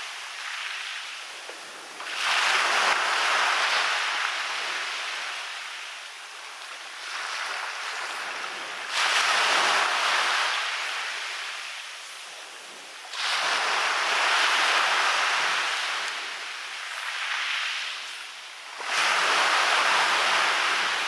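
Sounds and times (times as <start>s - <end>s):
waves breaking on a beach: 0.0s - 21.0s.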